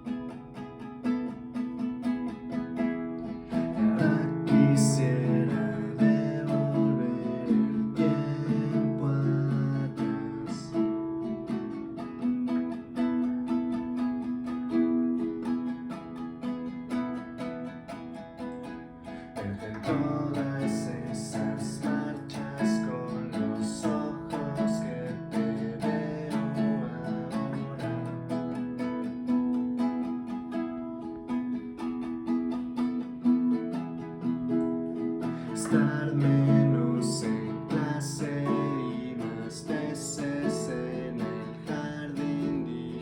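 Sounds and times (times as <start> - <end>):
plucked string instrument melody: 0.0 - 43.0.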